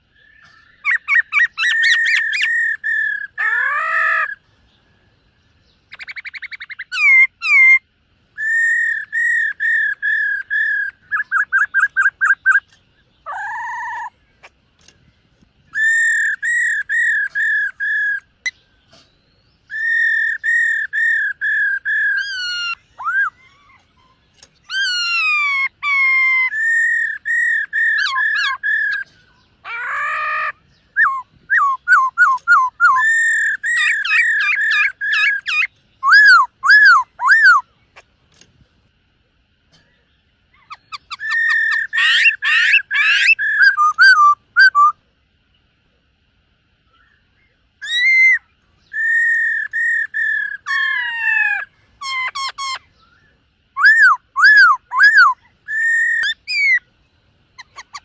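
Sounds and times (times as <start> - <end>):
bird whistling song: 0.0 - 15.0, 15.7 - 38.0, 39.7 - 45.0, 46.8 - 58.0.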